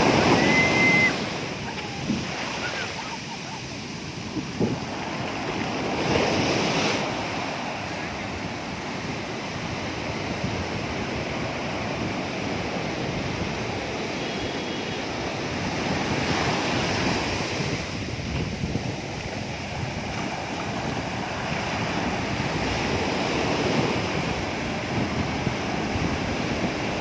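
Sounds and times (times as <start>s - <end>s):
sea surf washing onto beach: 0.0s - 27.0s.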